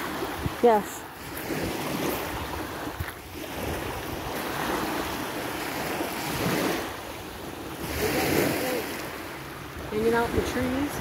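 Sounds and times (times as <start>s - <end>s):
waves washing onto sand: 0.0s - 11.0s.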